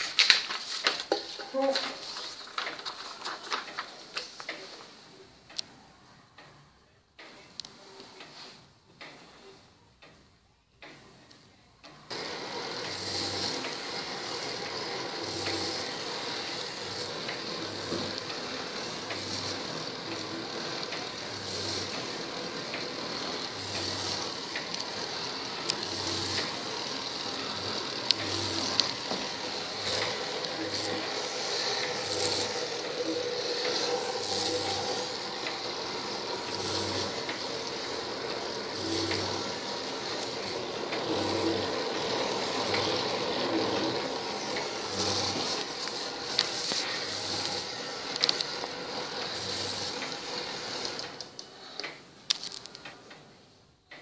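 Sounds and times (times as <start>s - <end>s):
plastic gears whirring and clicking: 0.0s - 5.8s, 7.2s - 54.0s.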